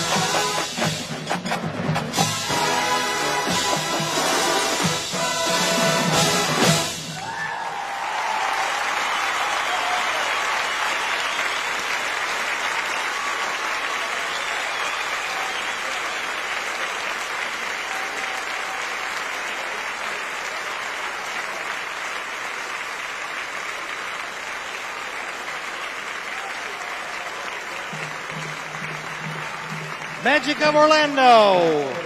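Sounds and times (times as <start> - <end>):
stadium crowd applauding: 0.0 - 32.0.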